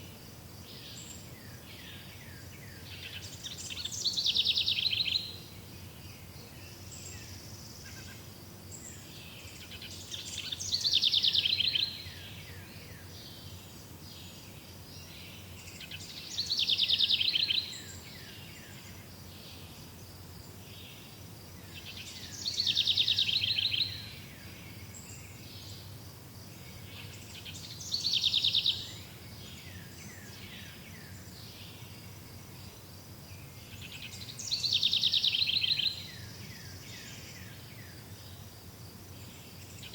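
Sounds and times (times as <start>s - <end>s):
faint background bird chirping: 0.0s - 39.9s
songbird trill: 0.0s - 39.9s.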